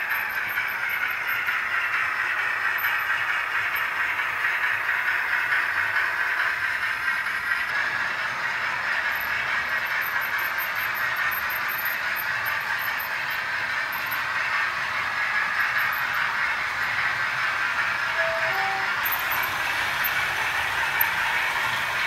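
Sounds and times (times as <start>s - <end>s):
model trains running on rails: 0.0s - 22.0s.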